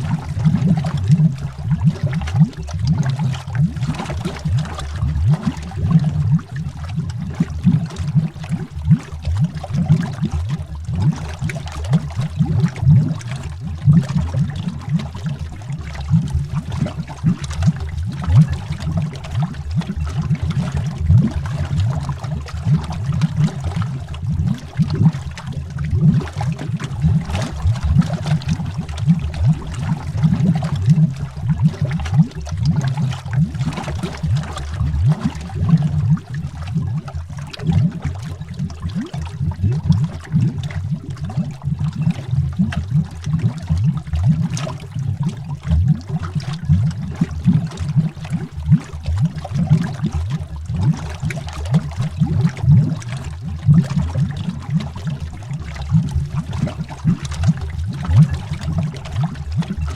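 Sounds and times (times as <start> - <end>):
underwater bubbling: 0.0 - 59.9.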